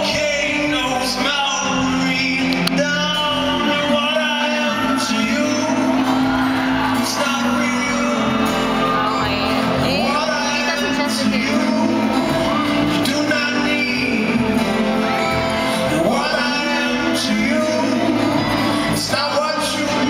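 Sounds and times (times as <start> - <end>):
live pop band with singing: 0.0 - 20.0
crowd whooping: 2.7 - 20.0.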